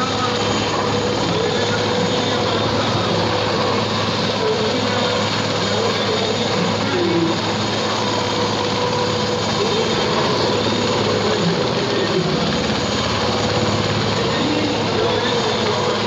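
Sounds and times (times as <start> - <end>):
helicopter rotor and turbine din: 0.0 - 16.0.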